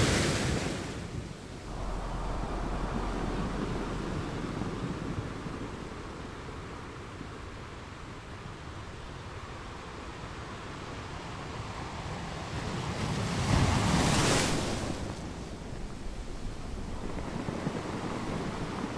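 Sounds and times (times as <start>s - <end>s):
ocean waves washing on shore: 0.0s - 18.9s.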